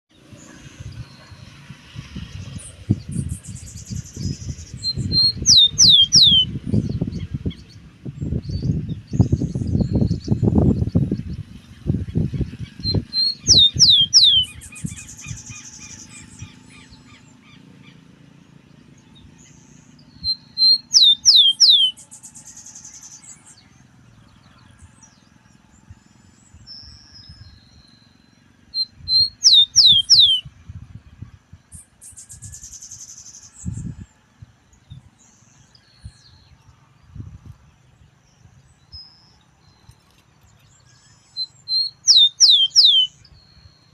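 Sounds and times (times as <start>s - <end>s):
sparrow singing: 0.1s - 43.9s.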